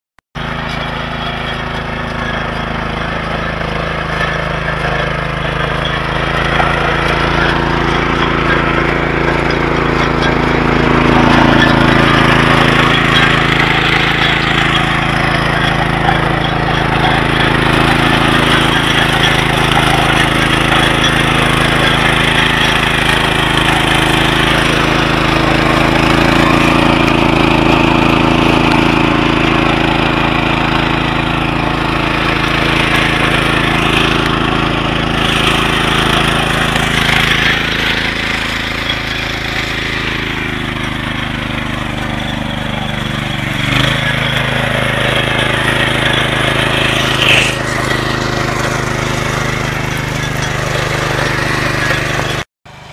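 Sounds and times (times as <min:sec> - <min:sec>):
rotary tines chopping soil: 0:00.4 - 0:52.9
small engine running under load: 0:00.4 - 0:52.9.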